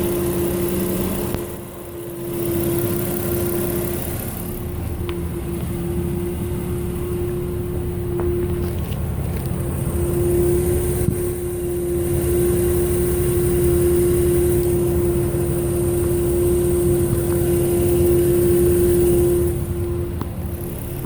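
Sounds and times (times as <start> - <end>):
car engine running: 0.0 - 21.0
loud steady alternator hum: 0.0 - 21.0.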